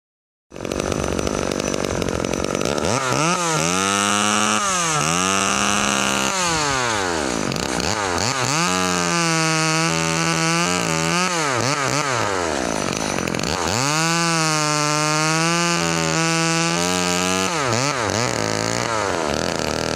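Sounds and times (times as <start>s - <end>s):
chainsaw cutting log: 0.5s - 19.9s.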